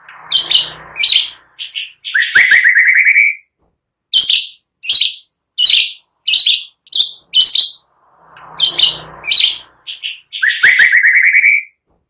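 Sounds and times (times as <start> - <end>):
bird trill rising notes: 0.0 - 3.4, 4.2 - 11.7
songbirds harsh chirps: 0.0 - 3.5, 4.1 - 11.8.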